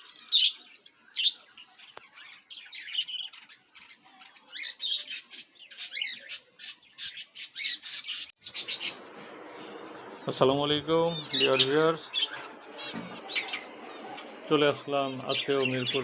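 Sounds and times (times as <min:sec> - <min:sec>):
budgerigars chattering: 0:02.5 - 0:16.0.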